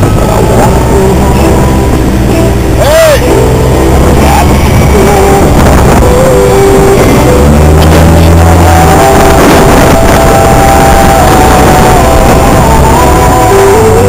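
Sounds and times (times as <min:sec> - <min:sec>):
overdriven atv engine running: 0:00.0 - 0:14.0
tune of held notes: 0:00.0 - 0:14.0.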